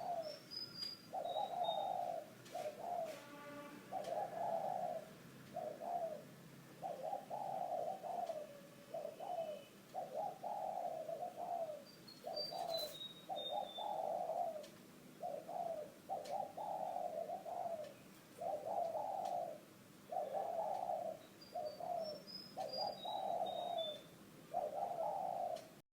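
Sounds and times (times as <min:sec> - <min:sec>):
small bird chirping: 0:00.0 - 0:03.1, 0:06.8 - 0:25.8
dove cooing: 0:00.0 - 0:25.8.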